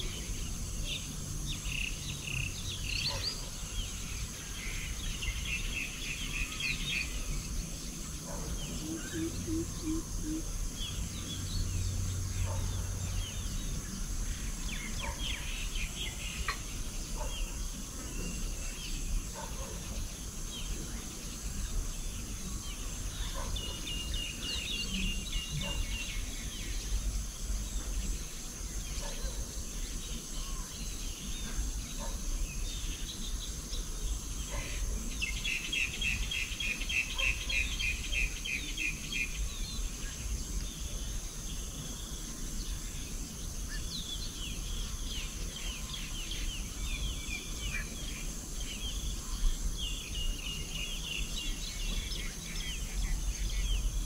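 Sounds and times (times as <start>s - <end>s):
high insect drone: 0.0s - 54.0s
small birds chirping: 0.0s - 54.0s.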